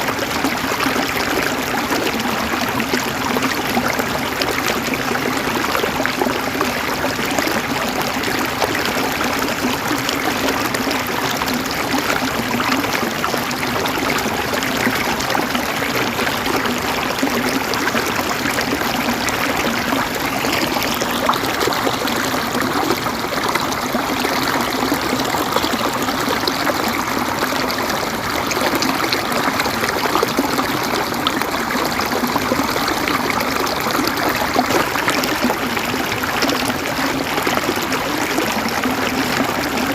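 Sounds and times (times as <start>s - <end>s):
stream running and trickling: 0.0s - 39.9s.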